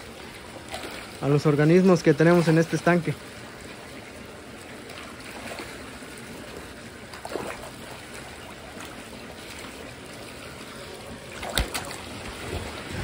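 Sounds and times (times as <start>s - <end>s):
fish splashing in water: 0.0s - 13.0s
water trickling and churning: 0.0s - 13.0s.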